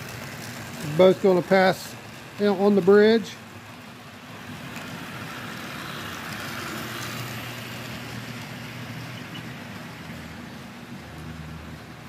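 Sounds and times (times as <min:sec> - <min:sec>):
train wheels rattling on rails: 0:00.0 - 0:11.3.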